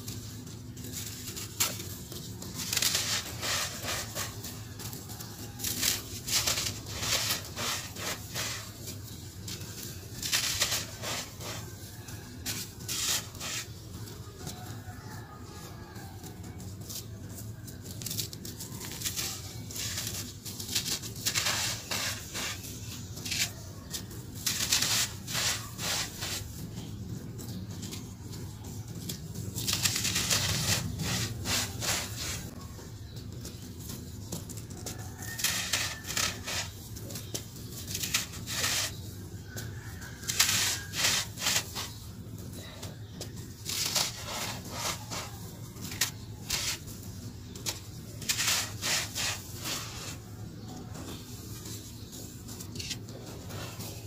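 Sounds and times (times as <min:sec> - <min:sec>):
sand-cement chunks crunching: 0:00.0 - 0:13.8, 0:17.0 - 0:28.0, 0:29.1 - 0:33.6, 0:34.7 - 0:39.0, 0:39.6 - 0:42.0, 0:43.0 - 0:50.3.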